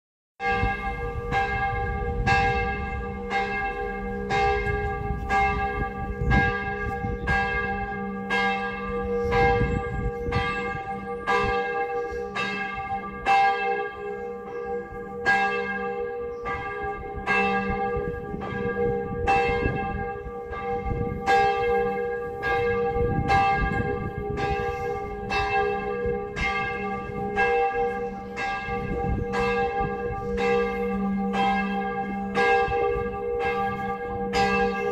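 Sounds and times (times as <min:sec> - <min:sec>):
church bell ringing: 0:00.4 - 0:34.9.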